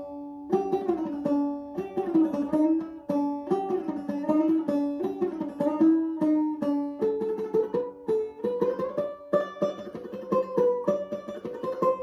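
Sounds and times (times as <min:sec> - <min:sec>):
banjo picking: 0:00.0 - 0:12.0.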